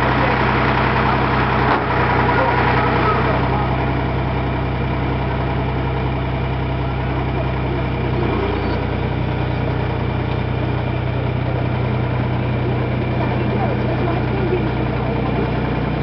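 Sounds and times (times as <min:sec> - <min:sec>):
diesel engine running at low revs: 0:00.0 - 0:16.0.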